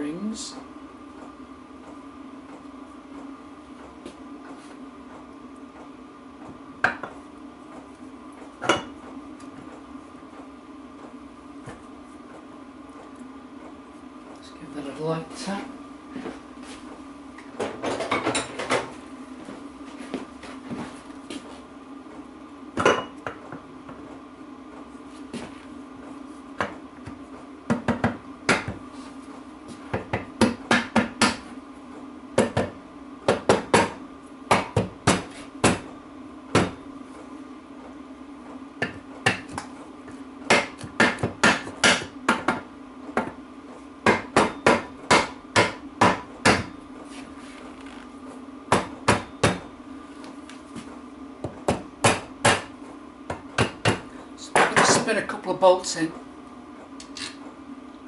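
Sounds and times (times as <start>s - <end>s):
low background hum: 0.0s - 58.0s.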